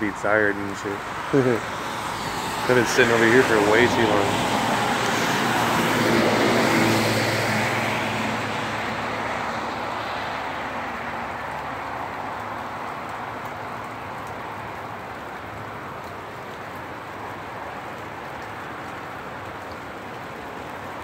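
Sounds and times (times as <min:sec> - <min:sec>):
car passing on wet road: 0:00.0 - 0:21.0
rain hissing: 0:00.0 - 0:21.0.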